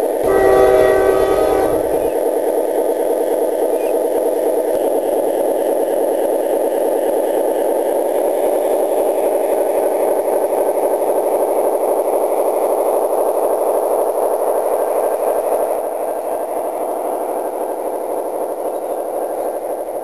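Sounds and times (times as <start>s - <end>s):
model locomotive engine drone: 0.0s - 20.0s.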